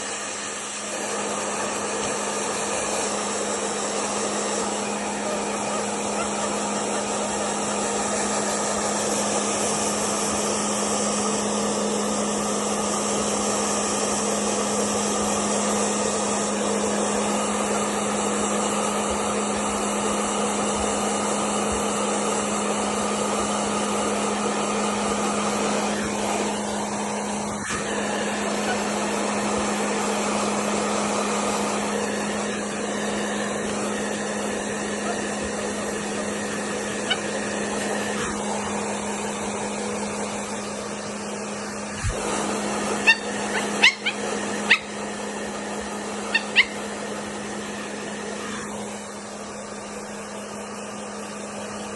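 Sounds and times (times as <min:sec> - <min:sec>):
hair dryer running: 0:00.0 - 0:51.9.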